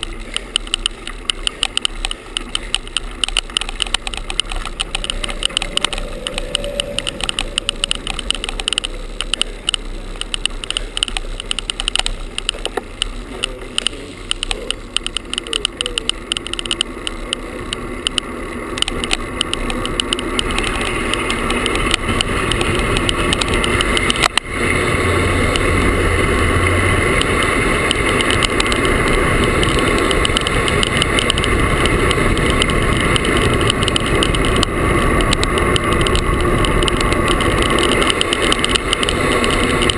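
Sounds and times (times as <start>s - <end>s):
camera rattling against handlebar: 0.0s - 39.9s
rapid clicking: 0.0s - 39.9s
wind and road noise: 0.0s - 39.9s.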